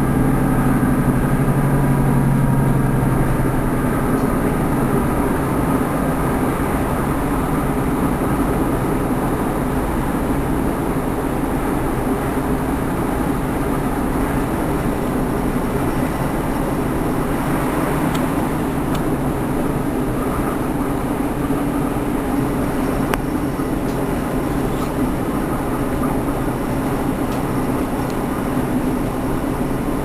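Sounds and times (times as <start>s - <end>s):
train interior drone: 0.0s - 30.0s.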